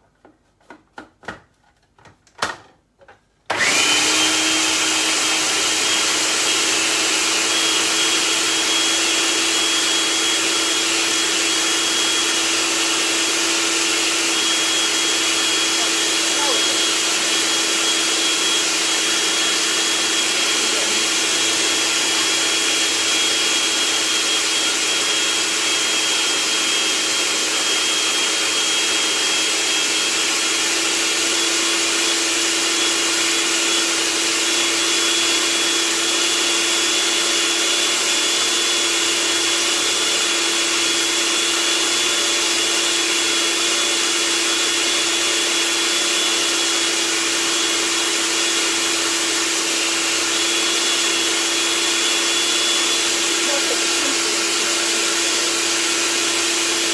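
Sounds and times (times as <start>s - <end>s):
food processor motor whine: 3.5s - 56.9s.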